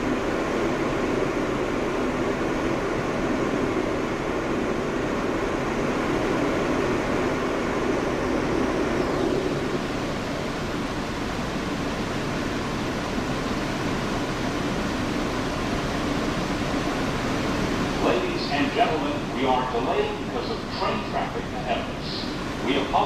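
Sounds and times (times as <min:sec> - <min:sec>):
falling whine of train slowing: 0:00.0 - 0:23.0
subway car rumble and hiss: 0:00.0 - 0:23.0
ventilation noise: 0:00.0 - 0:23.0.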